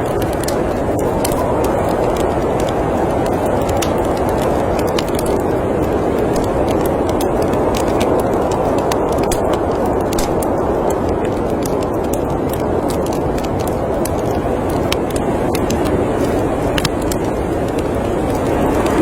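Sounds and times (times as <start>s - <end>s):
snowstorm wind: 0.0s - 19.0s
wood fire crackling: 0.0s - 19.0s.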